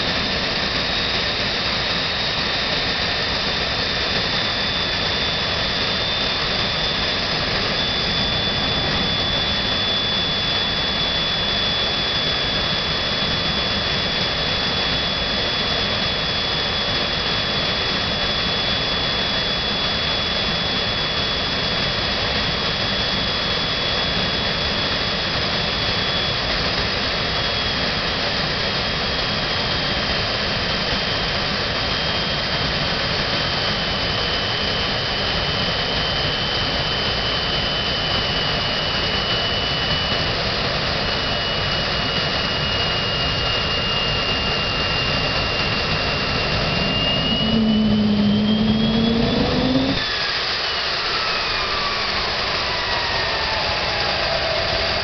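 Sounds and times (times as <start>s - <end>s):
turbojet engine whining: 0.0s - 55.0s.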